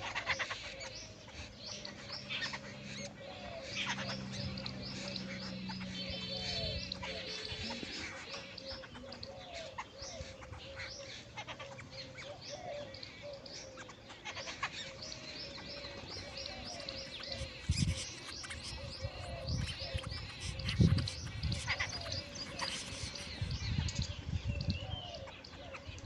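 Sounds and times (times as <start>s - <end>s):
birds calling harshly: 0.0s - 26.0s.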